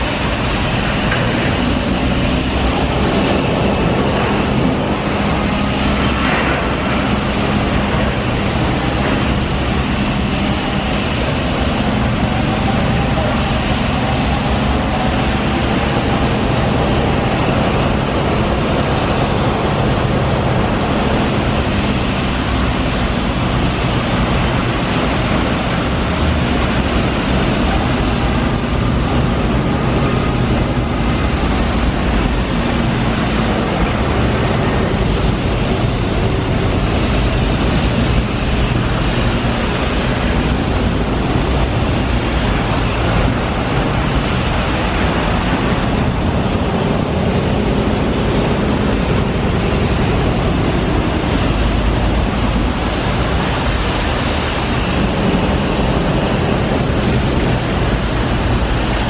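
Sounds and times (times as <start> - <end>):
heavy diesel machinery running: 0.0 - 59.0
site and traffic noise: 0.0 - 59.0.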